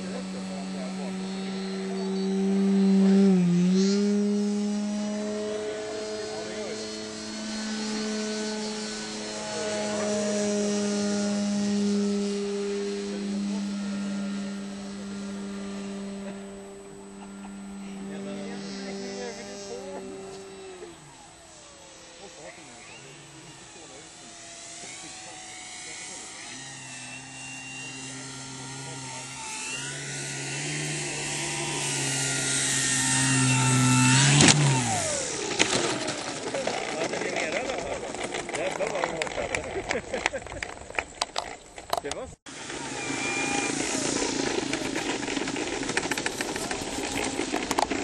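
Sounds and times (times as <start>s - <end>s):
model airplane motor humming: 0.0s - 48.0s.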